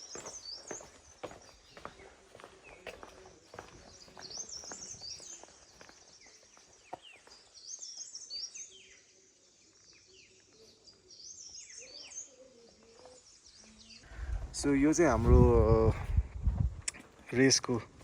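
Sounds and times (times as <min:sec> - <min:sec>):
birds twittering: 0:00.0 - 0:15.9.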